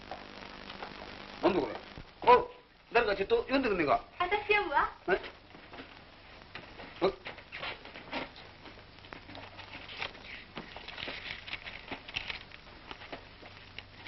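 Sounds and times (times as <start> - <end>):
faint rustling and soft clicks: 0.0 - 2.2, 4.2 - 14.0
steady low hum and hiss: 0.0 - 14.0.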